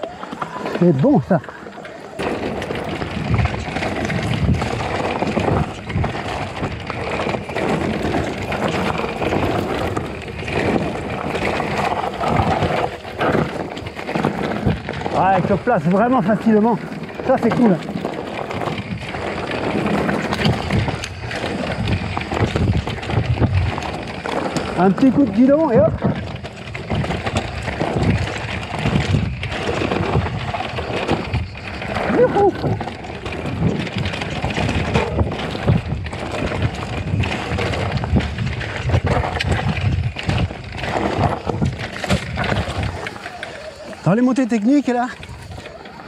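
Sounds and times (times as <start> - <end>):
bike knocks and rattles: 0.0 - 46.0
bike tyres rolling over loose stones: 0.0 - 46.0
wind buffeting microphone: 0.6 - 46.0.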